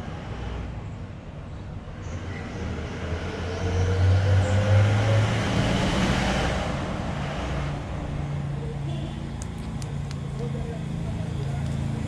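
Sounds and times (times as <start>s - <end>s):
traffic noise: 0.0s - 12.0s
vehicle engine hum passing: 1.9s - 12.0s.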